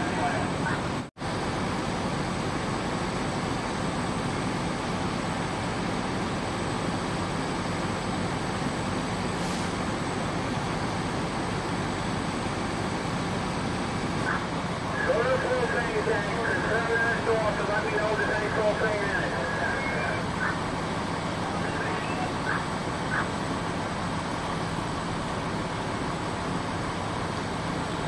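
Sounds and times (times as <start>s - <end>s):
steady engine noise: 0.0s - 28.0s.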